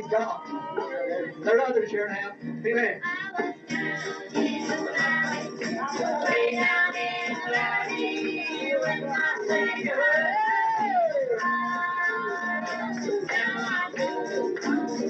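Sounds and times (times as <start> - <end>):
gospel group singing: 0.0 - 15.0
instrumental accompaniment: 0.0 - 15.0
lead voice singing: 0.0 - 15.0.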